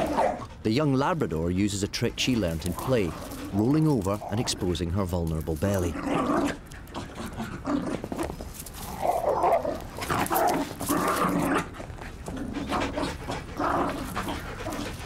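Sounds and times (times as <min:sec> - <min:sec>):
dogs growling: 0:00.0 - 0:00.6, 0:02.3 - 0:04.8, 0:05.7 - 0:15.0
dogs scuffling: 0:02.1 - 0:15.0.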